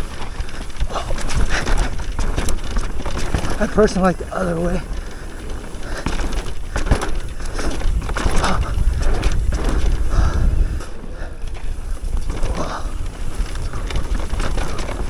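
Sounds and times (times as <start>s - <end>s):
bike knocking and rattling: 0.0s - 15.0s
tyres on dirt: 0.0s - 15.0s
wind buffeting microphone: 0.0s - 15.0s.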